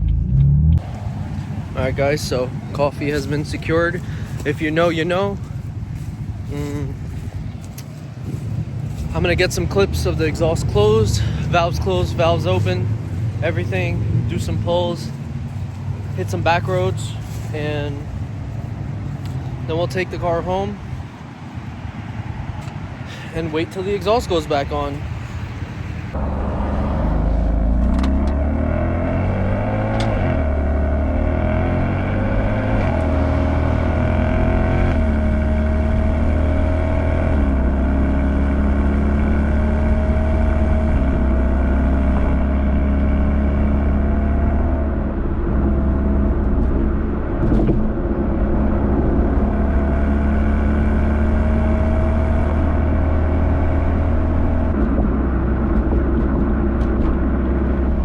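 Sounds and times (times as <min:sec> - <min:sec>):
car engine driving: 0:00.0 - 0:58.0.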